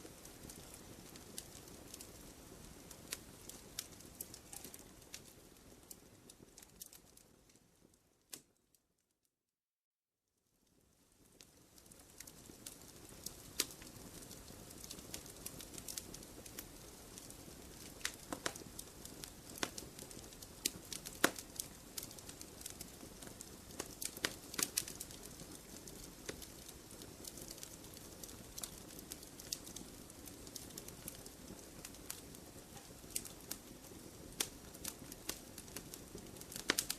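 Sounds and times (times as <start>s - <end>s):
wood fire crackling: 0.0s - 8.6s, 10.6s - 36.9s
low steady hiss: 0.0s - 9.1s, 10.4s - 36.9s.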